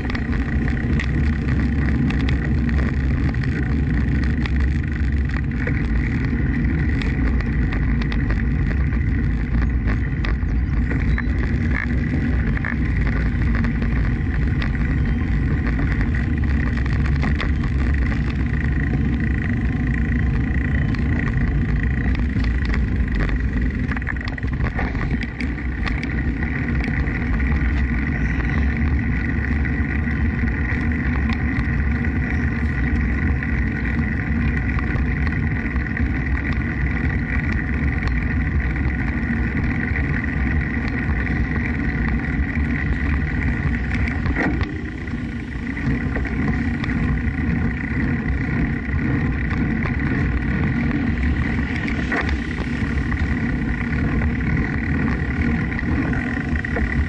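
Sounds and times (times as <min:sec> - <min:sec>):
faint high whine: 0:00.0 - 0:57.0
tyre and road noise: 0:00.0 - 0:57.0
wind rushing over microphone: 0:00.0 - 0:57.0.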